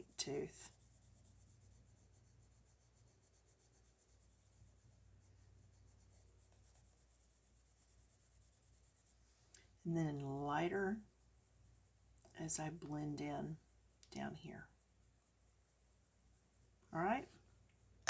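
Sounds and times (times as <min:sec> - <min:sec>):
pencil scratching on paper: 0:00.0 - 0:17.5.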